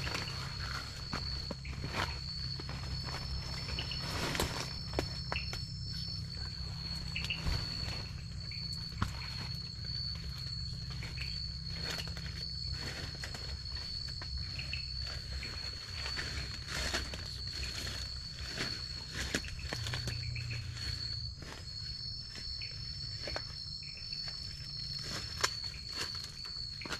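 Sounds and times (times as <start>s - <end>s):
low steady rumble: 0.0s - 26.8s
insects trilling: 0.0s - 26.9s.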